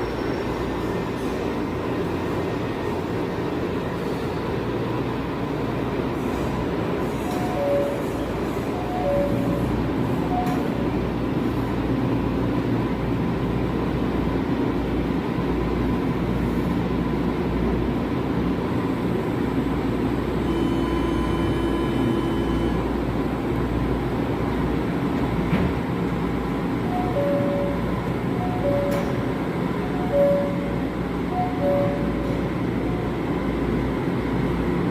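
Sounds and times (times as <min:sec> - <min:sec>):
high train whine: 0:00.0 - 0:34.9
train wheels and motors rumbling: 0:00.0 - 0:34.9.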